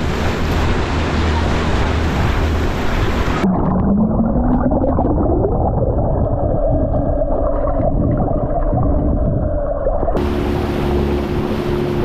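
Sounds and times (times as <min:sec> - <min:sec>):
muffled boat motor whine underwater: 0:00.0 - 0:05.3, 0:05.9 - 0:12.0
water churning: 0:00.0 - 0:12.0.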